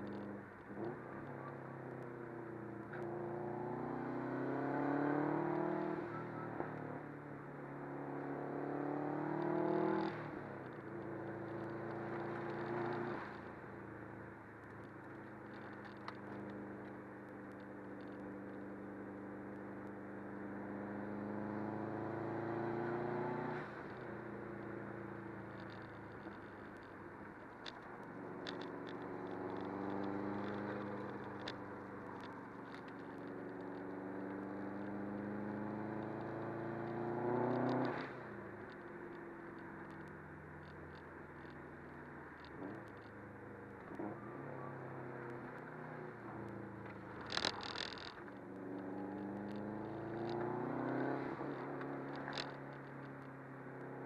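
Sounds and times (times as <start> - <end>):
car engine revving: 0.0 - 17.0, 17.6 - 43.1, 43.8 - 54.0
road and tyre noise: 0.0 - 54.0.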